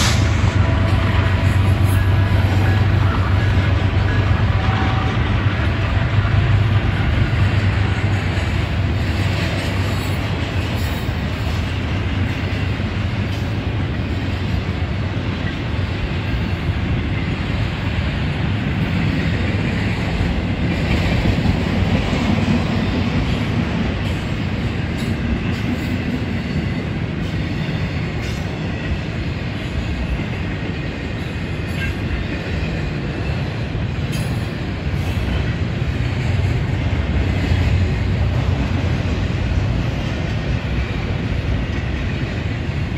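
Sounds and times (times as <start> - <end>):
train wheels rumbling on track: 0.0 - 42.9.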